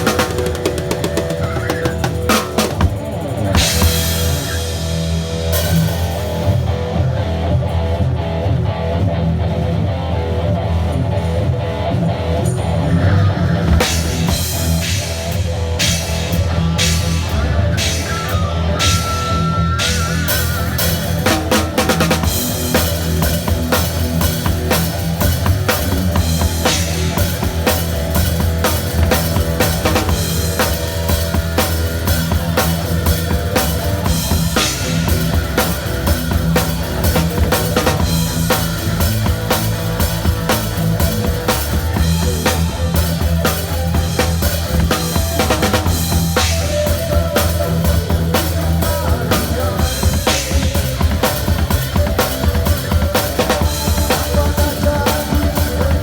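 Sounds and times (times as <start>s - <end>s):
drum kit playing: 0.0s - 12.4s, 13.2s - 56.0s
low bass line: 2.2s - 56.0s.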